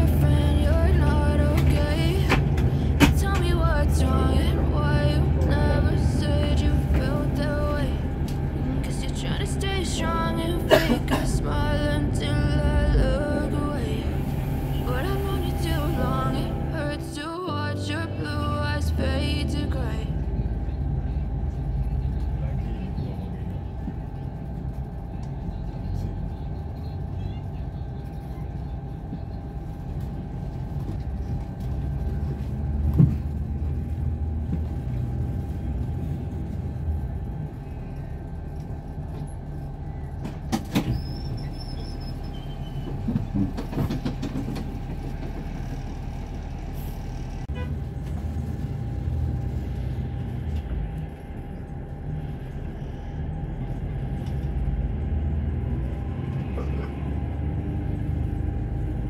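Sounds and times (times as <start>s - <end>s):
engine whine: 0.0s - 59.0s
large engine running: 0.0s - 59.0s.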